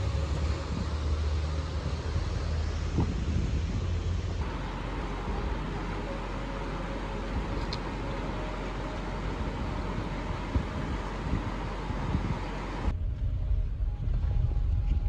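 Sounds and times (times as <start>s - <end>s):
vehicle rumbling on dirt track: 0.0s - 15.0s.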